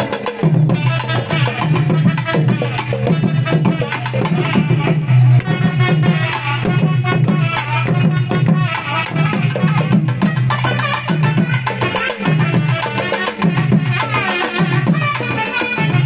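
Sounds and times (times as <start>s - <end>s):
fast steady drumming: 0.0s - 16.0s
brass horns reedy melody: 0.7s - 16.0s.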